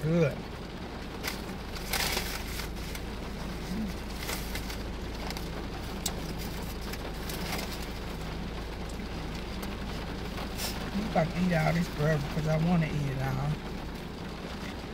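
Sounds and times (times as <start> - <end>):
car cabin hum: 0.0 - 14.9
light rain on car: 0.0 - 14.9.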